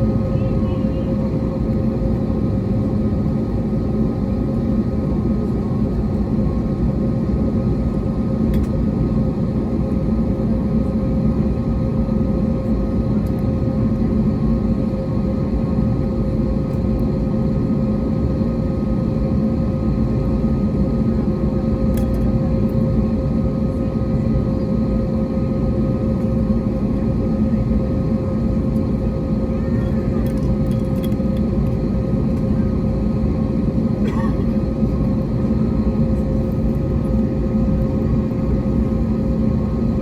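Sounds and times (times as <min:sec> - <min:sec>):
airliner cabin engine drone: 0:00.0 - 0:40.0.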